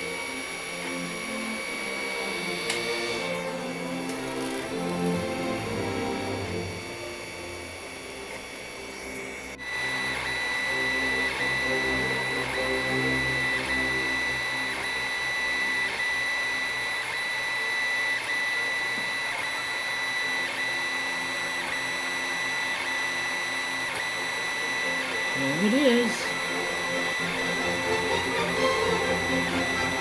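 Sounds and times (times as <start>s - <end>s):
three-d printer motors whining: 0.0s - 30.0s.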